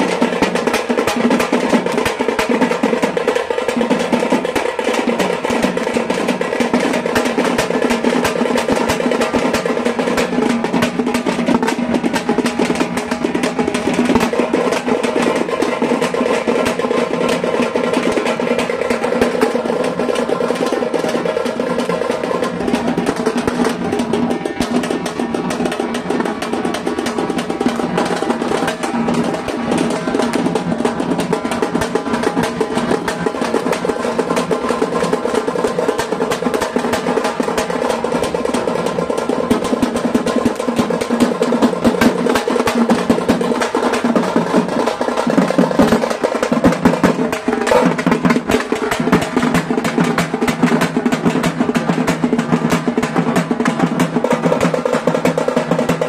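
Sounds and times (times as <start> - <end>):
frame drums beaten with sticks: 0.0 - 56.0.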